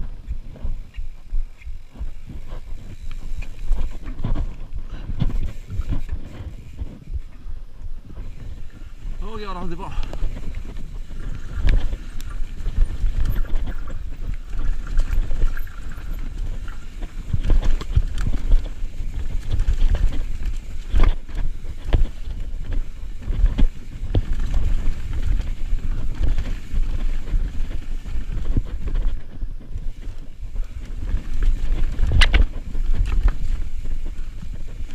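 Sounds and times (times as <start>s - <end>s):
bike knocking and rattling: 0.0s - 34.9s
bike tyres rumbling on dirt: 0.0s - 34.9s
wind buffeting microphone: 0.0s - 34.9s.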